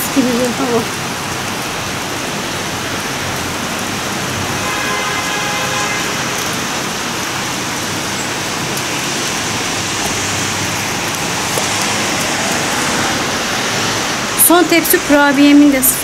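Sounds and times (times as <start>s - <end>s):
steady rain on street and rooftops: 0.0s - 16.0s.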